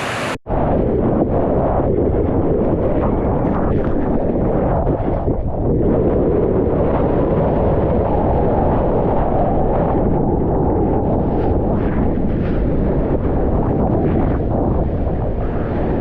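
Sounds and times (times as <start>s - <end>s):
rumble of whitewater: 0.0s - 16.0s
wind buffeting microphone: 0.0s - 16.0s.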